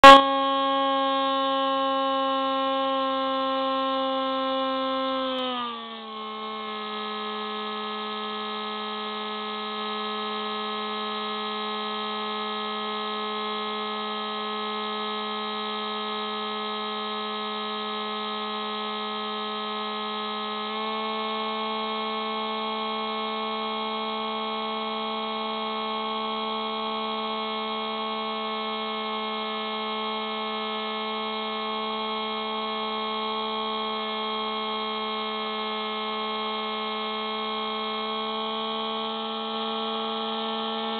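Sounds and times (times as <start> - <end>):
model plane motor whine: 0.0 - 40.9.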